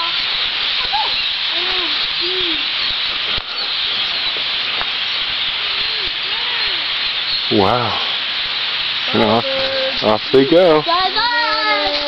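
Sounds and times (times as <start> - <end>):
flock of songbirds chattering: 0.0 - 12.0
low rising and falling calls: 0.0 - 12.0.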